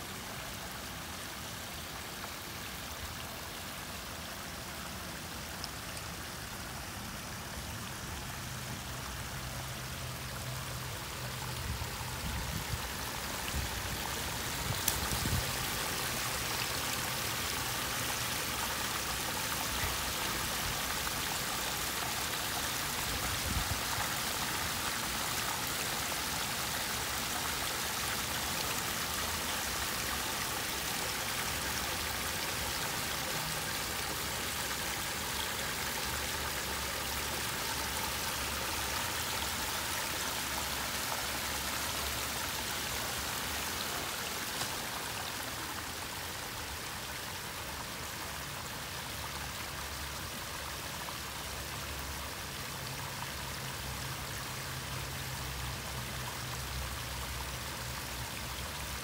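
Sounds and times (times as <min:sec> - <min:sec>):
waterfall splashing over stone: 0:00.0 - 0:59.0.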